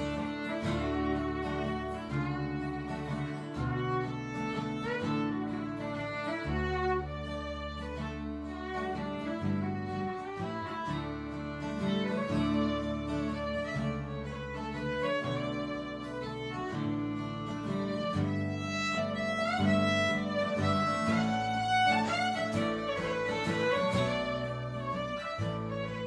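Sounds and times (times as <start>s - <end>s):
fiddle melody: 0.0s - 26.0s
strummed guitar chords: 0.0s - 26.0s.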